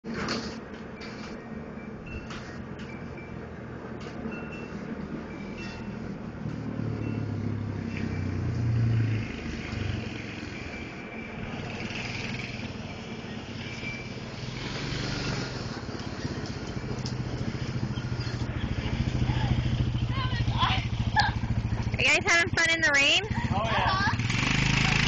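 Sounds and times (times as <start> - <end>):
atv engine running: 4.8 - 25.0.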